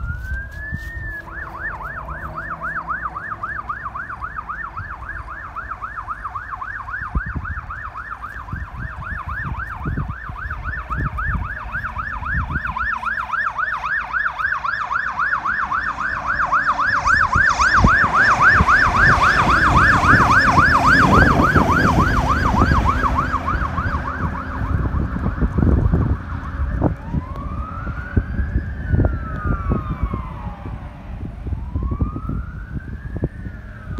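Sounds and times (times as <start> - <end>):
diesel truck rumble: 0.0 - 33.9
fire truck siren: 0.0 - 33.9.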